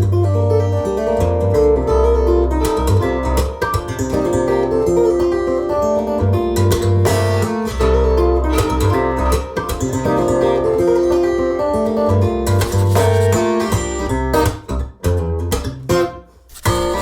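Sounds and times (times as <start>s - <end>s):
bass line: 0.0s - 17.0s
guitar instrumental over loudspeakers: 0.0s - 17.0s.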